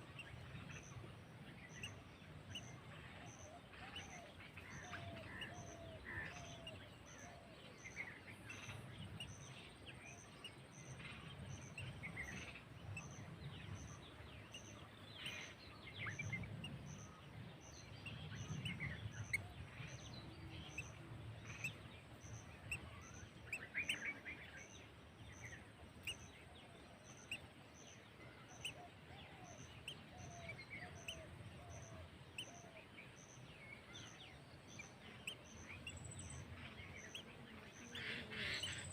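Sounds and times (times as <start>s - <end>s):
birds chirping and calling: 0.0s - 38.9s
low background rumble: 0.0s - 38.9s.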